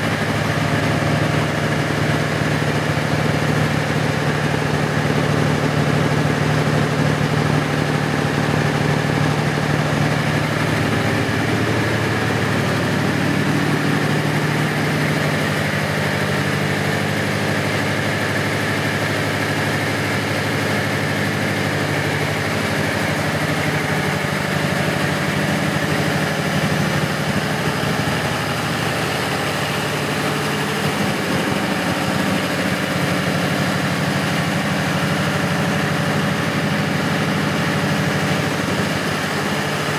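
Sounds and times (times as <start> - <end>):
diesel generator engine droning: 0.0 - 39.9.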